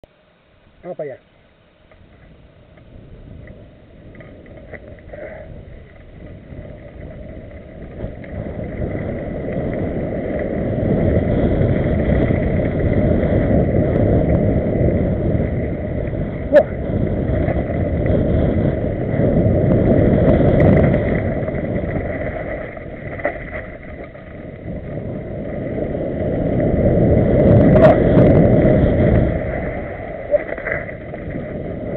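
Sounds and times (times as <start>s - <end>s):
mountain bike rumbling on dirt trail: 1.6s - 31.9s
wind buffeting microphone: 1.9s - 31.9s.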